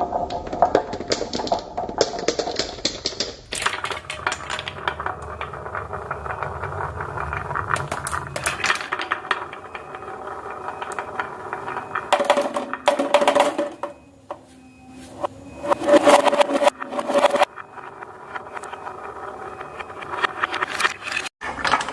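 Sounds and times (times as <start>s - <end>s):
marbles clicking: 0.0s - 14.0s, 15.7s - 21.9s
marbles rolling on track: 0.0s - 14.1s, 15.5s - 21.9s
ringing hum of marbles: 3.5s - 21.3s.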